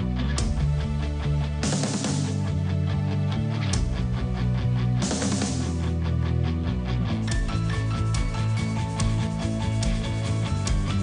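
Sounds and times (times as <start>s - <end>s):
hard rock song: 0.0s - 11.0s.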